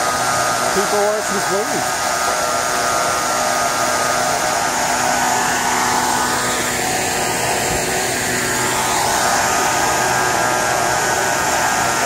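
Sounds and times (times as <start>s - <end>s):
fan mechanical whine: 0.0s - 12.0s.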